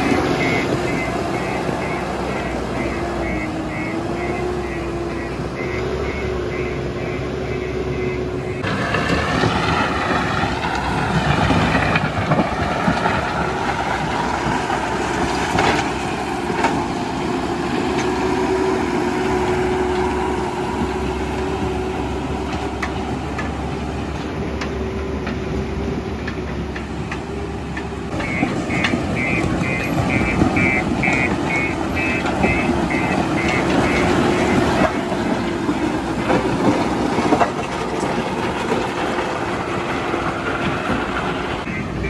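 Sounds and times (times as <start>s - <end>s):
diesel engine running: 0.0s - 42.0s
wavering engine whine: 0.0s - 42.0s.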